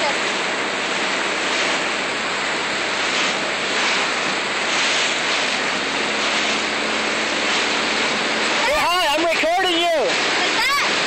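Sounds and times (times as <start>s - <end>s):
churning wake water: 0.0s - 11.0s
faint low engine hum: 0.0s - 11.0s
wind: 0.0s - 11.0s.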